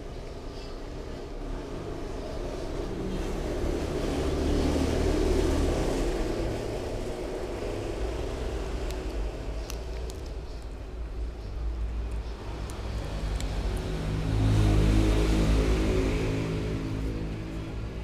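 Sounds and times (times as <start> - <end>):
passing motor vehicle rumble: 0.0 - 18.0.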